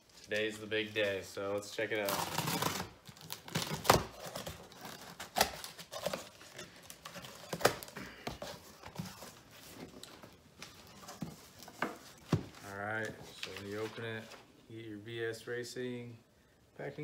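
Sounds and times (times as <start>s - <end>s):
cardboard and plastic wrap rustling: 0.0s - 14.5s.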